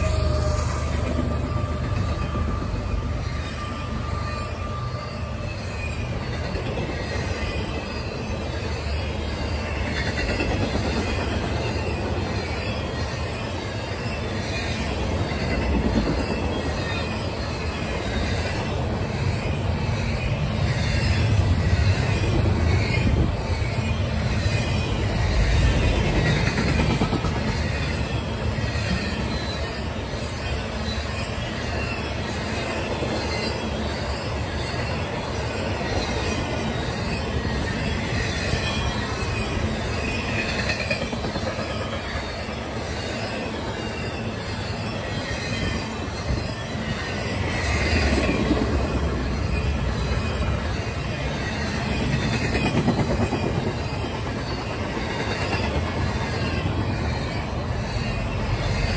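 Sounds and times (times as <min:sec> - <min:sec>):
train wheels rumbling on rail: 0:00.0 - 0:58.9
wavering wheel squeals: 0:00.0 - 0:58.9.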